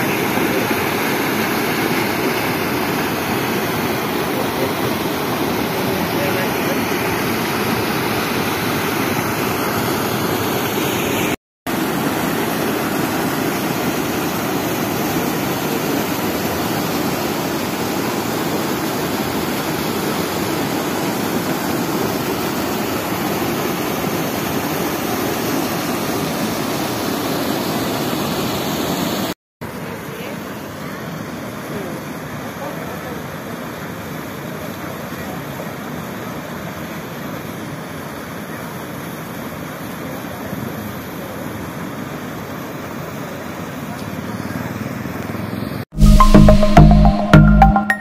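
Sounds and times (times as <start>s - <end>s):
water rushing over a weir: 0.0s - 45.7s.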